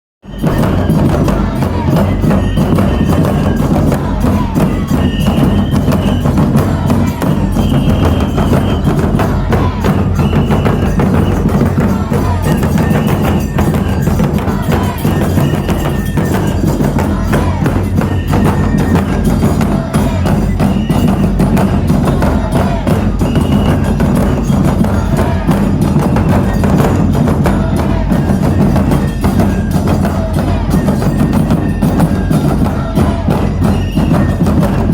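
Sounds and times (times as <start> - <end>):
high flute phrases: 0.2 - 34.9
taiko drums beating: 0.2 - 34.9.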